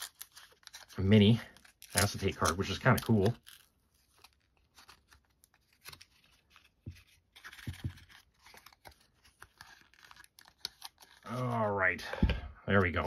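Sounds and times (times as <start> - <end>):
cards scratching and rustling: 0.0 - 12.0.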